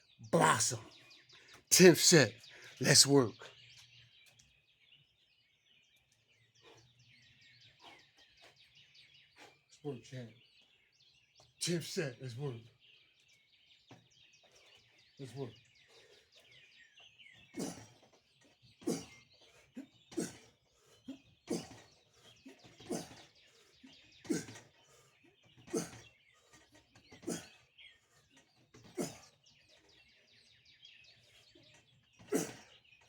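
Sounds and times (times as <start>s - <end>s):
faint birds chirping: 0.0s - 33.0s.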